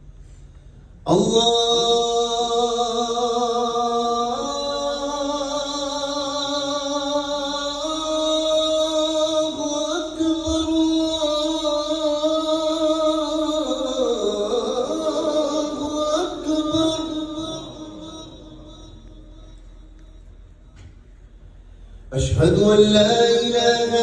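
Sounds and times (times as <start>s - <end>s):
man chanting call to prayer: 1.1s - 20.2s, 22.1s - 24.0s.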